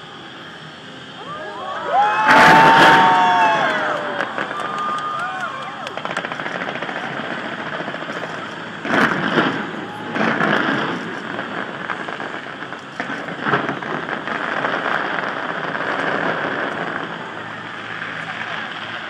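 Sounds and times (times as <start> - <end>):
fireworks crackling: 0.0 - 19.0
fireworks bangs: 2.0 - 19.0.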